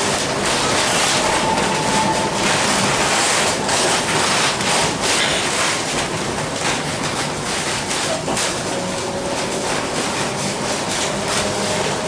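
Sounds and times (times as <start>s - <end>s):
streetcar wheels rumbling and rattling: 0.0s - 12.0s.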